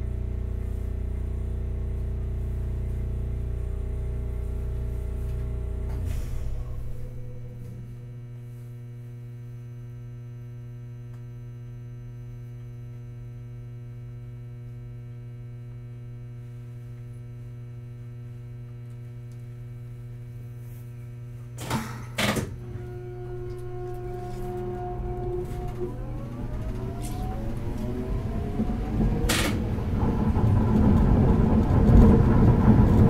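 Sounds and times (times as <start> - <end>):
tram electrical hum: 0.0 - 33.0
tram inverter whine: 0.0 - 33.0.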